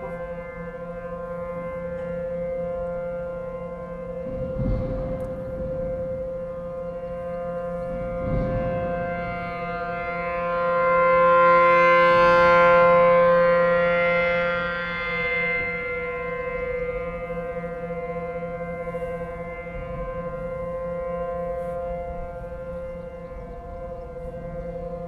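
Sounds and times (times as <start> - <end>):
warning siren steady tone: 0.0 - 25.0.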